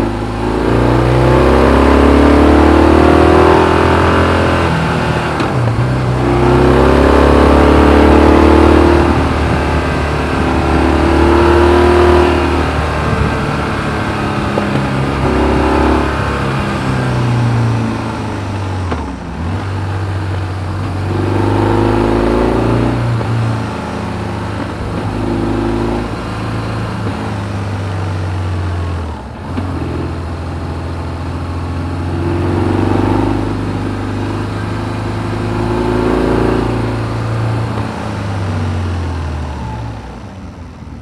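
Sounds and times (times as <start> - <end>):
motorcycle engine revving: 0.0 - 40.2.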